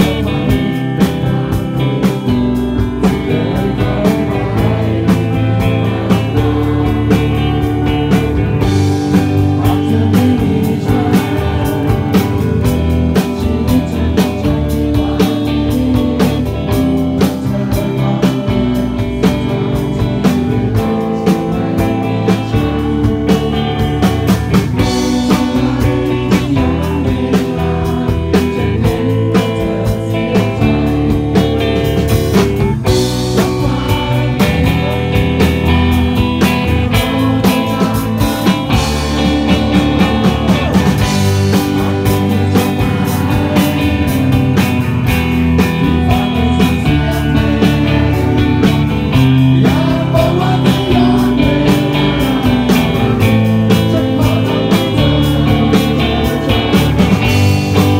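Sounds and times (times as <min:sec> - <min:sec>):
bass guitar: 0:00.0 - 0:57.9
drums: 0:00.0 - 0:57.9
electric guitar: 0:00.0 - 0:57.9
person singing: 0:00.0 - 0:57.9.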